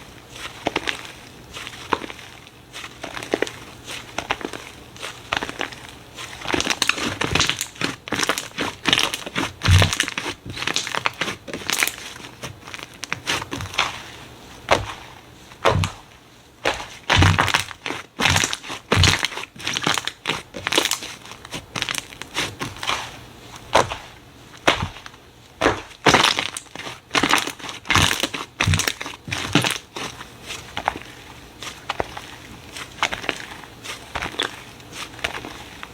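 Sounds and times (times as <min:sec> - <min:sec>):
slime crackling and popping: 0:00.4 - 0:35.9.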